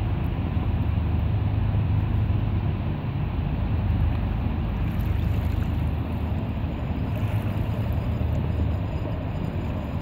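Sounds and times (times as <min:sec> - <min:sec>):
boat diesel engines droning: 0:00.0 - 0:10.0.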